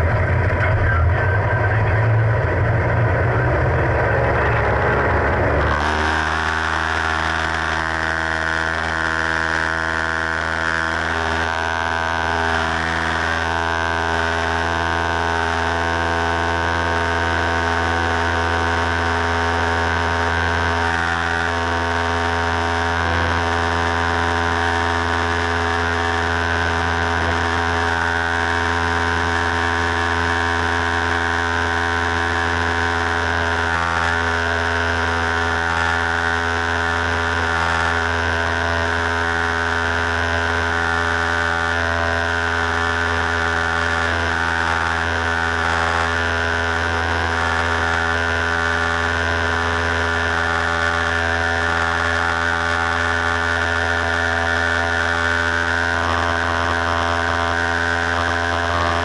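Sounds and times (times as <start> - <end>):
propeller aircraft engine drone: 0.0 - 59.0.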